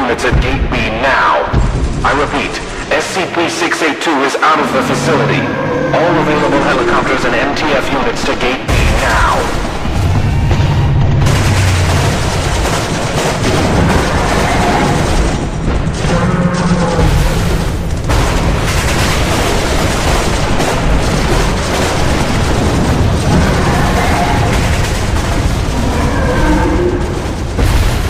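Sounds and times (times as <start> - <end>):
continuous gunfire: 0.0 - 28.0
explosion booms: 4.5 - 28.0.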